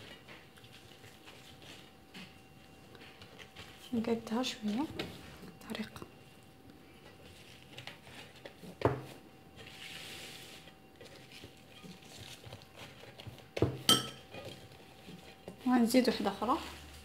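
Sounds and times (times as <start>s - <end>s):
pastry sheets rustling: 0.0s - 13.6s, 14.3s - 17.0s.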